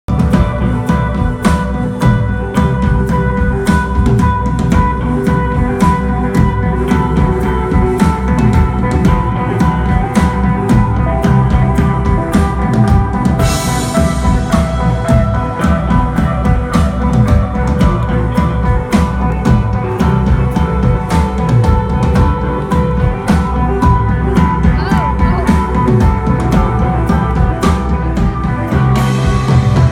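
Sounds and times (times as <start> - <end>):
rock band playing live: 0.0 - 29.9.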